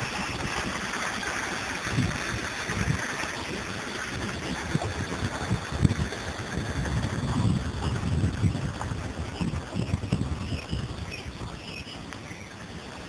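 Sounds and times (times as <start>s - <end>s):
water rushing in pond cascade: 0.0s - 13.0s
wind buffeting microphone: 0.0s - 13.0s.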